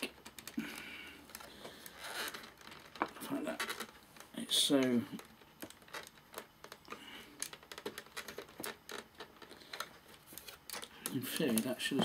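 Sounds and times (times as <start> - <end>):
small clicks and taps on plastic: 0.0 - 2.0, 2.8 - 12.0.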